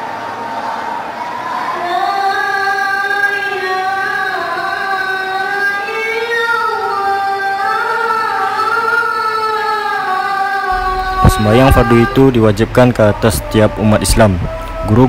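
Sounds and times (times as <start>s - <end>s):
boy chanting into a microphone: 0.8s - 15.0s.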